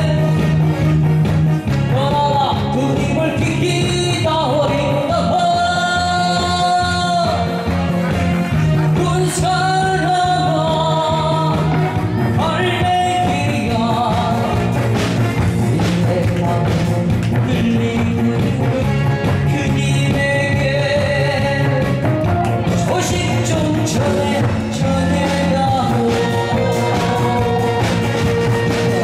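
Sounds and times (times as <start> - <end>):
person singing: 0.0 - 0.7, 1.8 - 29.0
instrumental accompaniment with beat: 0.0 - 29.0.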